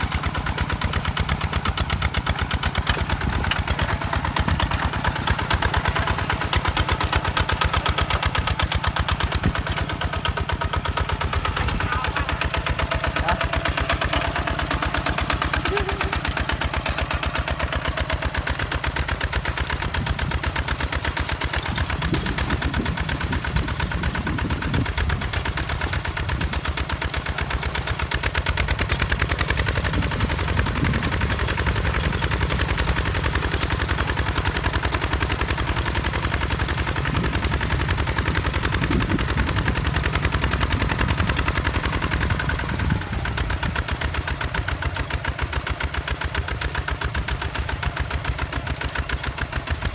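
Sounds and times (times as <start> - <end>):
diesel engine chugging: 0.0 - 49.9.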